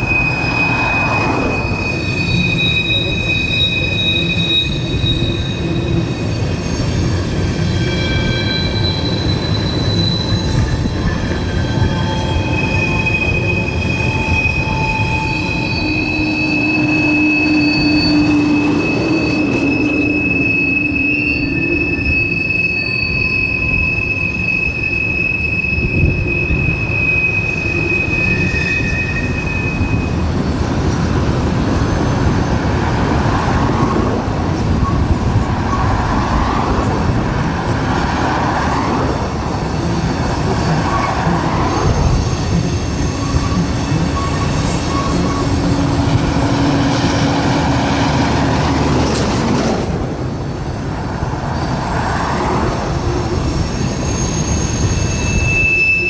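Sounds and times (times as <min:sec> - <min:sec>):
train wheels rumbling on track: 0:00.0 - 0:56.0
wheel squeal: 0:00.0 - 0:56.0.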